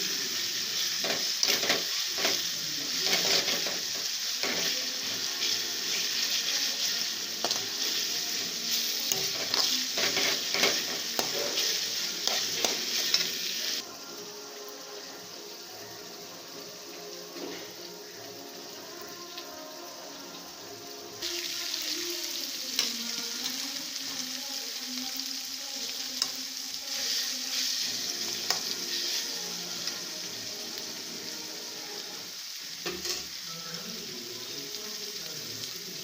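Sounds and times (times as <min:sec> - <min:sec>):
prawns sizzling in hot oil: 0:00.0 - 0:36.0.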